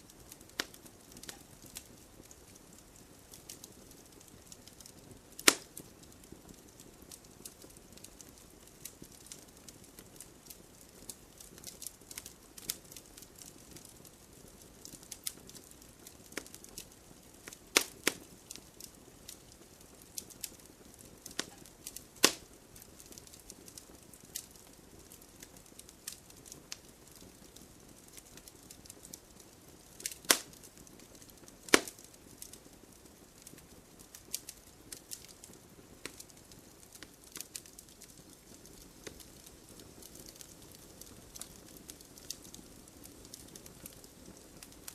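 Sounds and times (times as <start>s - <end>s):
campfire crackling: 0.0s - 44.9s.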